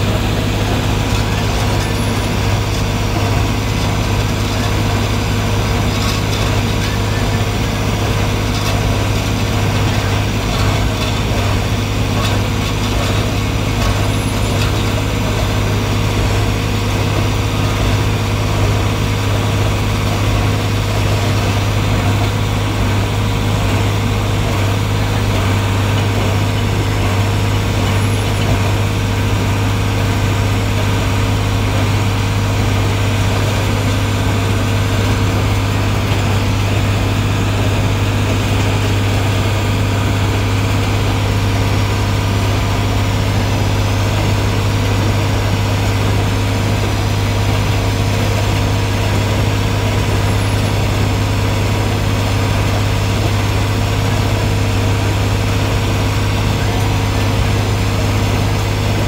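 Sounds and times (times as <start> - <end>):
tractor engine deep hum: 0.0 - 59.0.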